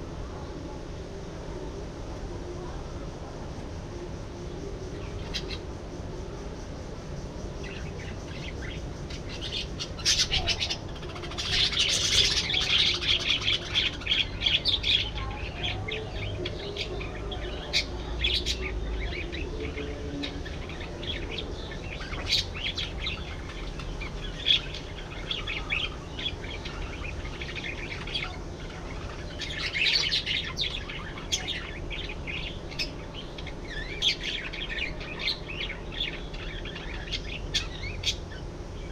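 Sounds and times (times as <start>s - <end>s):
budgerigars chattering and chirping: 7.6s - 38.9s.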